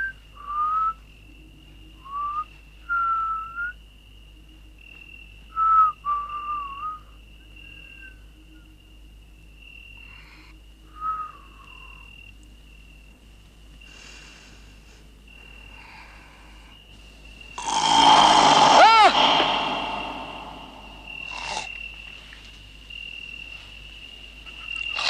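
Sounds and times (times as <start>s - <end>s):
crickets chirring: 0.0s - 25.0s.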